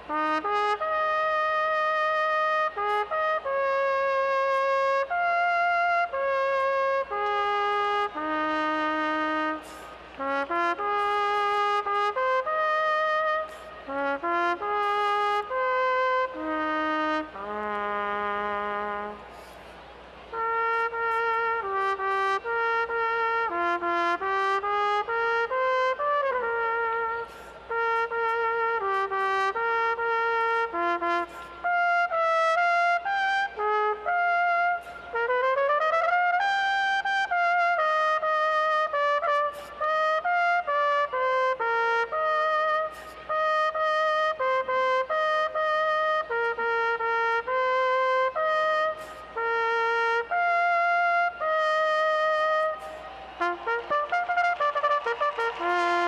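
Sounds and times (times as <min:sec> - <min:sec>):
solo trumpet playing: 0:00.0 - 0:56.0.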